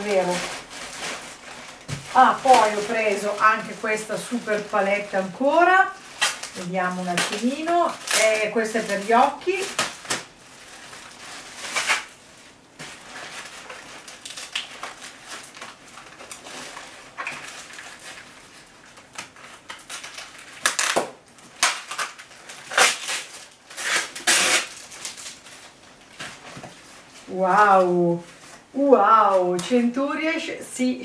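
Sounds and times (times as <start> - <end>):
plastic packaging crinkling: 0.0 - 30.1.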